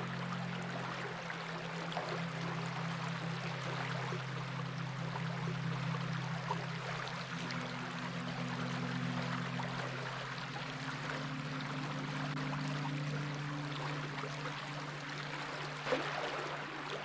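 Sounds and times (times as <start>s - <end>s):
low steady hum: 0.0s - 17.0s
stream water flowing: 0.0s - 17.0s.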